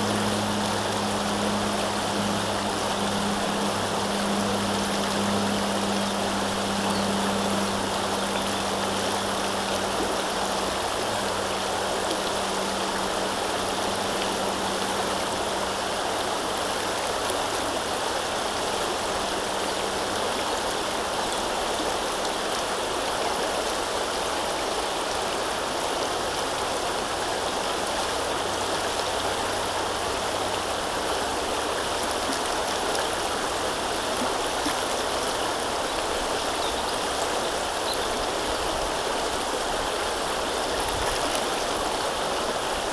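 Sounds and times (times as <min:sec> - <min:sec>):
river water flowing: 0:00.0 - 0:42.9.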